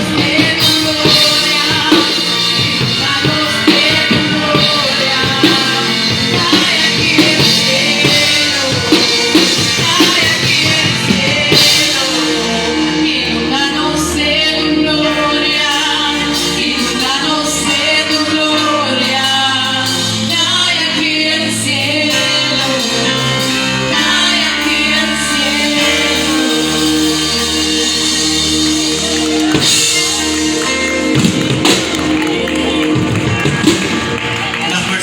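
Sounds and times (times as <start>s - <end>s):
gospel singing with band: 0.0s - 35.0s.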